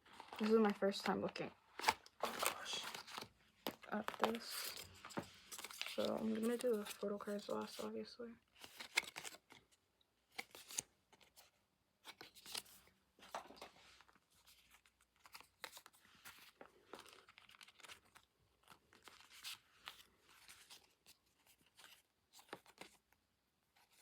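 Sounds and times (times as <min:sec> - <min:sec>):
paper pages rustling and crinkling: 0:00.0 - 0:24.0.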